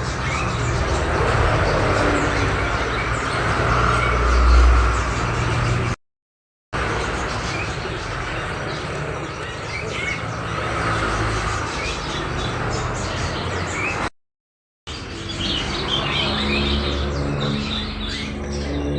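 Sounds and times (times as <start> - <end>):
songbirds chirping: 0.0 - 6.0, 6.8 - 14.1, 14.9 - 18.9.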